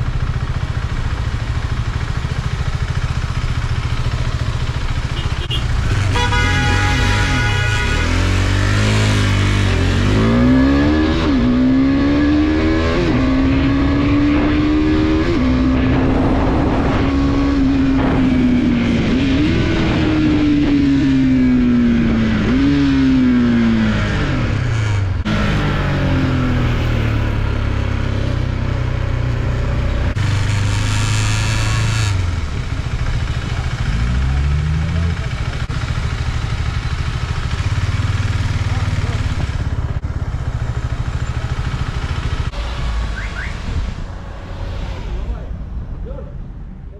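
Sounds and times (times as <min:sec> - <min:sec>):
motorcycle engine shifting gears: 0:00.0 - 0:44.7
wind and road noise: 0:00.0 - 0:46.9.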